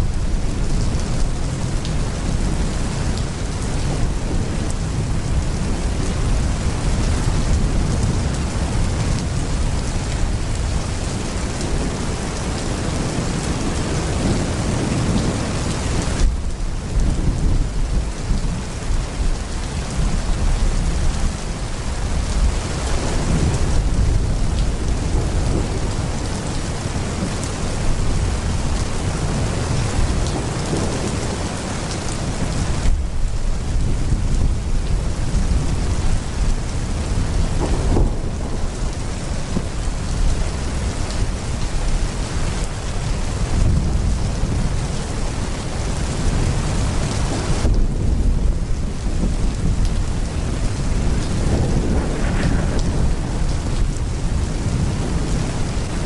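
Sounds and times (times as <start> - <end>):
heavy rain pouring: 0.0 - 56.0
low rolling thunder: 0.0 - 56.0.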